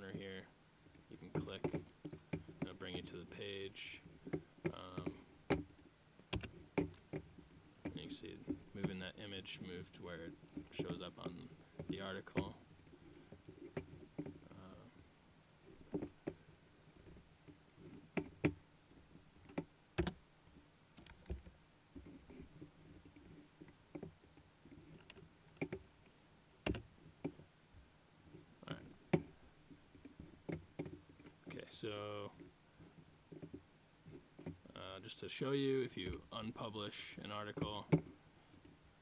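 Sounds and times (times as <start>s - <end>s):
faint background hum: 0.0s - 39.0s.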